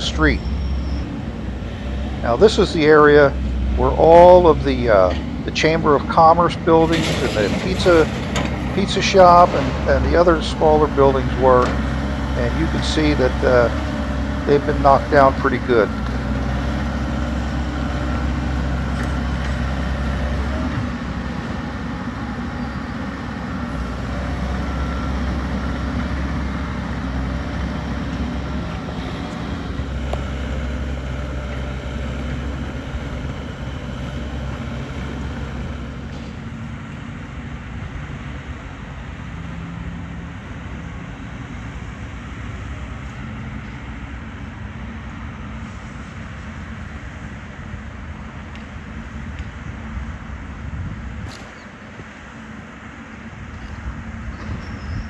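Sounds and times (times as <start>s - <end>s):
road traffic: 0.0s - 55.0s
vehicle engine humming: 0.0s - 55.0s.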